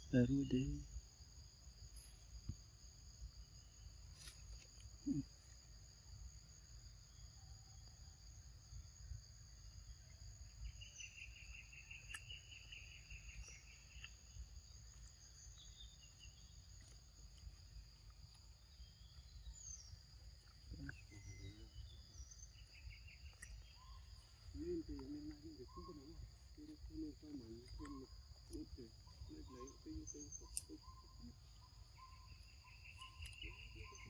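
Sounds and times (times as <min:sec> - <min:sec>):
insect chorus: 0:00.0 - 0:34.0.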